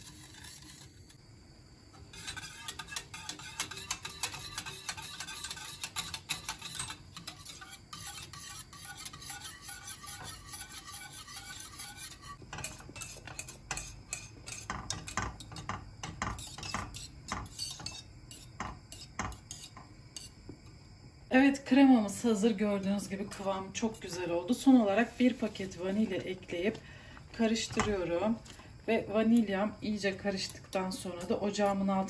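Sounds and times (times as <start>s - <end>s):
whisk scraping and clinking in pot: 0.0s - 1.1s, 2.0s - 20.4s, 23.2s - 26.8s, 27.4s - 28.6s, 29.3s - 32.0s.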